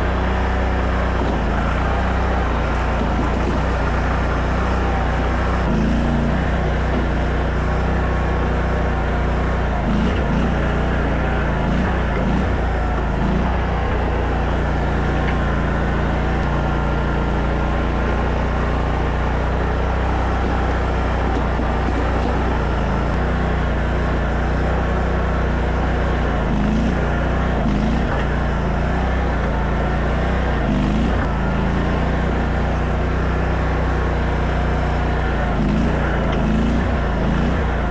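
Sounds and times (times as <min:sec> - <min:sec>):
skid steer engine running: 0:00.0 - 0:37.9.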